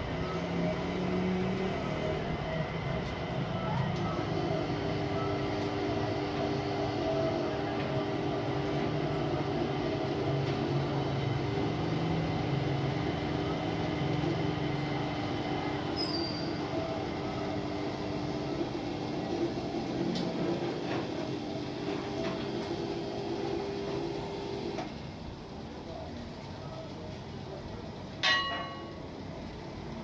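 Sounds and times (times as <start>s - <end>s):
metal lathe running: 0.0s - 24.8s.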